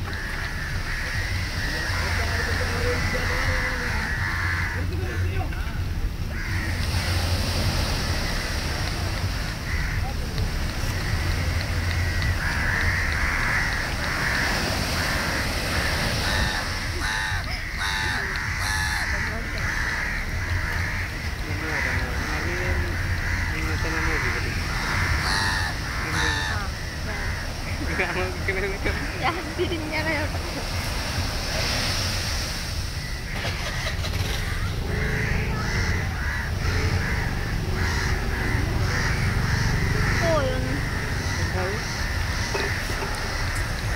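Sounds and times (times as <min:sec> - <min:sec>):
crows cawing: 0:00.0 - 0:29.4, 0:30.7 - 0:43.9
small waves washing on beach: 0:00.0 - 0:43.9
steady low rumble: 0:00.0 - 0:43.9
surf: 0:00.0 - 0:43.9
wind: 0:00.0 - 0:43.9.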